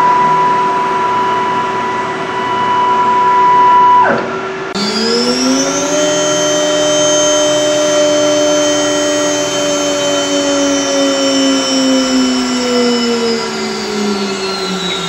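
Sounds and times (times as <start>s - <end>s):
router motor whining: 0.0s - 15.0s.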